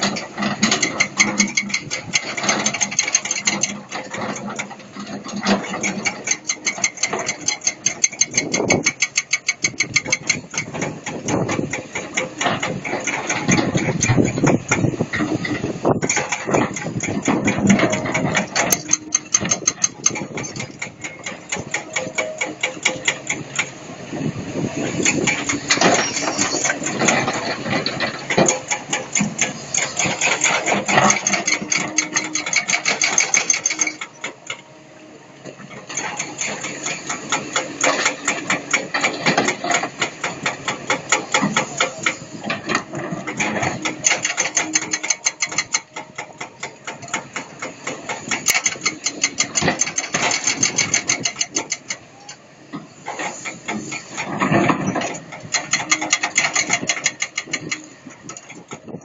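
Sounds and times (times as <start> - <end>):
excavator diesel engine clattering: 0.0 - 59.0.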